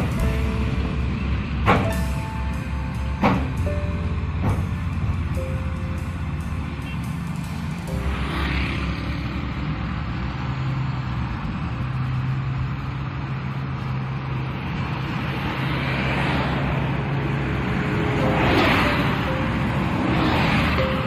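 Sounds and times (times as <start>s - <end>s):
truck diesel engine driving: 0.0s - 21.0s.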